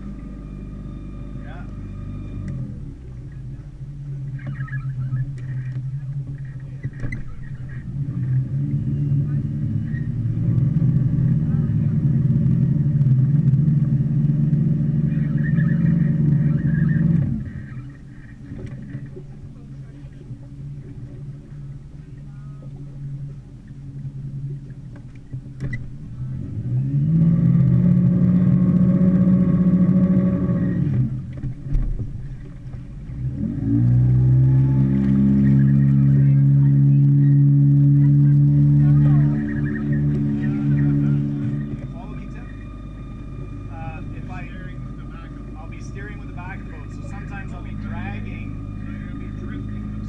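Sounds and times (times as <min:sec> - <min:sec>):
boat motor humming: 0:00.0 - 0:50.0.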